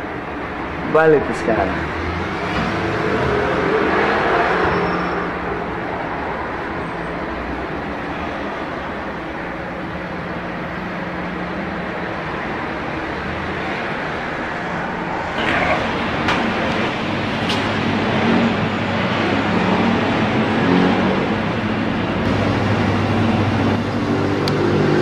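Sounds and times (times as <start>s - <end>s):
machinery humming and rumbling: 0.0s - 25.0s.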